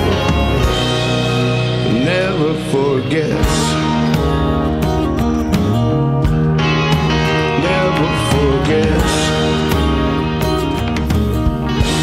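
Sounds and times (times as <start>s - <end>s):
song with bass and drums: 0.0s - 12.0s.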